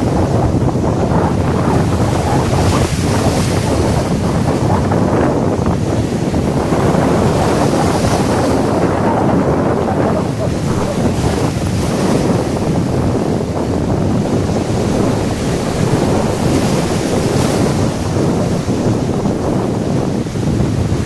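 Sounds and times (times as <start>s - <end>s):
surf on a beach: 0.0s - 21.0s
wind buffeting microphone: 0.0s - 21.0s.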